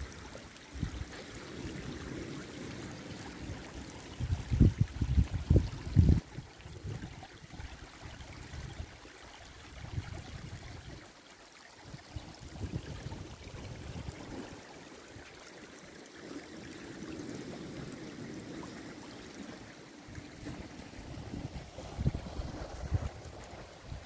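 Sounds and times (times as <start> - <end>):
water trickling over pebbles: 0.0 - 24.0.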